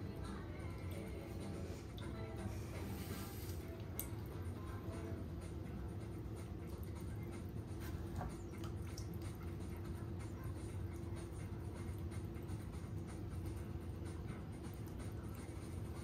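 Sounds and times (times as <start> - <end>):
pottery wheel humming: 0.0 - 16.0.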